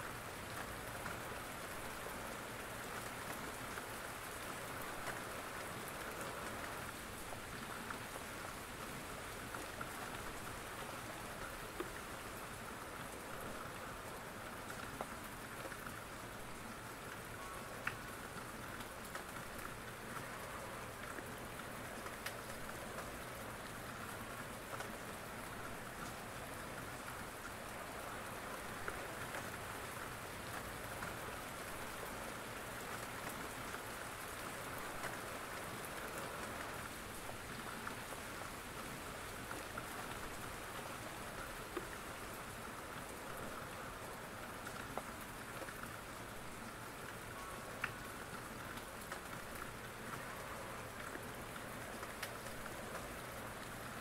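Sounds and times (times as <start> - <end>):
steady rain falling: 0.0 - 54.0
raindrops ticking: 0.1 - 54.0.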